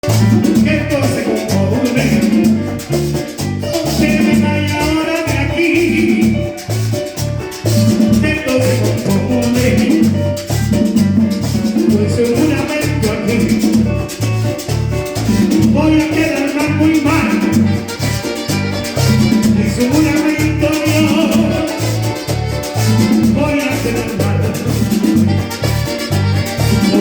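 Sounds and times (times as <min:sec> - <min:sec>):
latin dance band music: 0:00.0 - 0:27.0.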